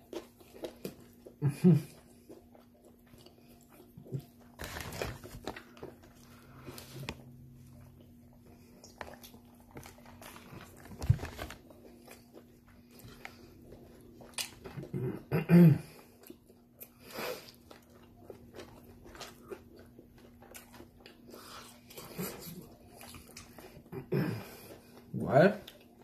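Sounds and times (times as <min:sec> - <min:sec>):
person chewing fried food: 0:00.0 - 0:26.0.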